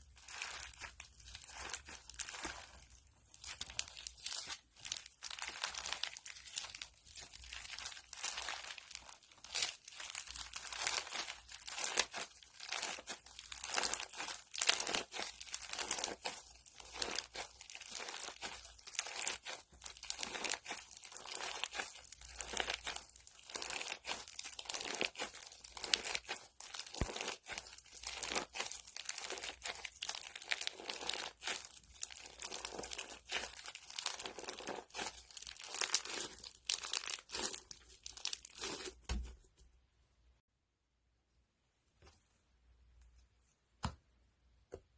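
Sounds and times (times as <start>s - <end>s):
crunchy slime crackling and popping: 0.0s - 39.2s.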